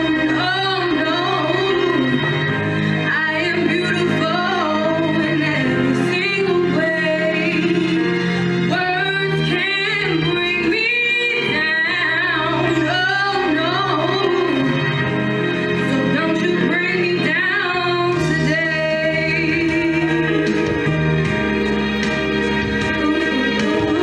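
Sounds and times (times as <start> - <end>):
woman singing: 0.0 - 15.0, 15.8 - 20.9, 22.8 - 24.0
instrumental accompaniment low notes: 0.0 - 24.0.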